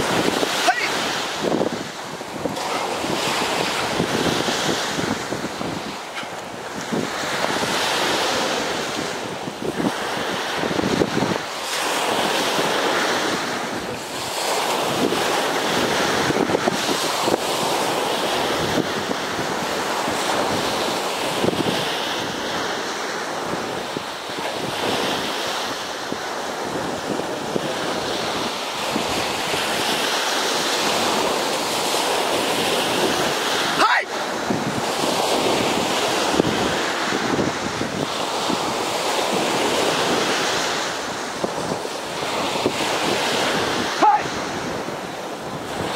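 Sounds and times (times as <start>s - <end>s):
surf washing onto beach: 0.0s - 45.9s
wind buffeting microphone: 0.0s - 45.9s.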